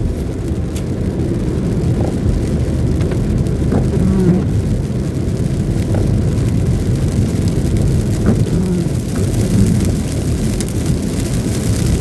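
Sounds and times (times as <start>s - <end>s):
rain on car: 0.0s - 12.0s
tyres rumbling through water: 0.0s - 12.0s.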